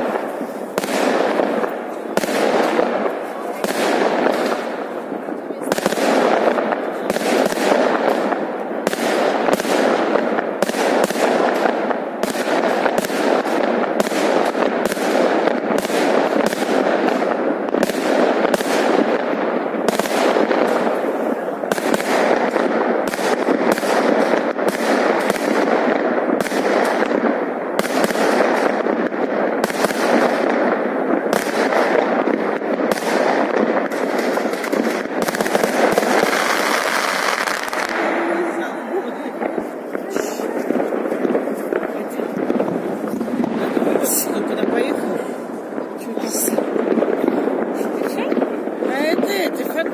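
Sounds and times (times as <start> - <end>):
fireworks banging and crackling: 0.0 - 49.9.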